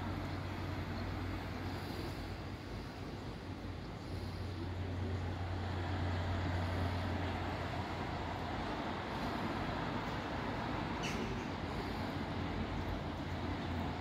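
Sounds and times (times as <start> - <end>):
low engine hum: 0.0 - 14.0
road traffic noise: 0.0 - 14.0.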